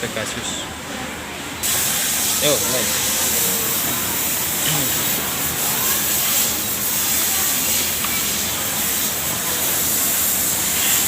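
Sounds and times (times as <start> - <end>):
steady hiss: 1.6 - 11.0.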